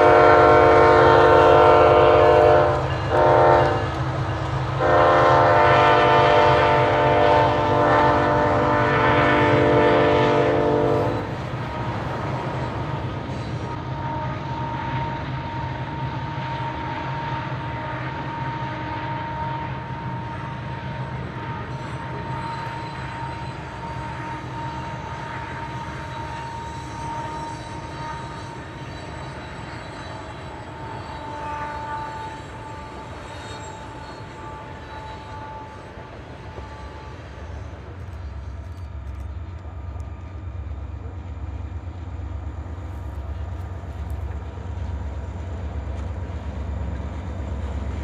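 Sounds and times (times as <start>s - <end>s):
freight train rumbling by: 0.0s - 48.0s.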